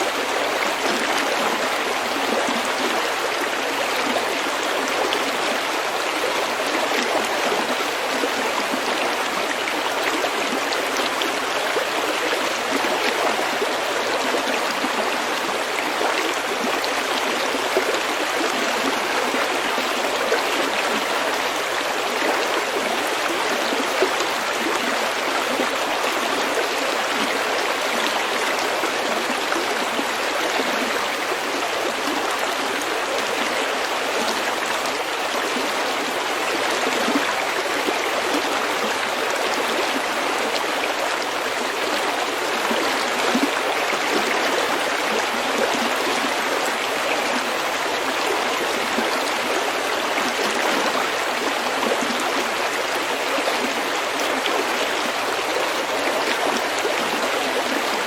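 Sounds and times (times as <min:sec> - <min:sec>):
stream babbling over pebbles: 0:00.0 - 0:58.0.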